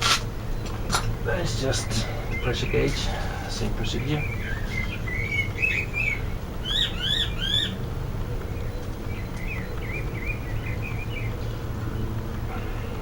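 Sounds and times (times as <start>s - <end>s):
songbird chirping and warbling: 0.0s - 13.0s
steady low rumble: 0.0s - 13.0s.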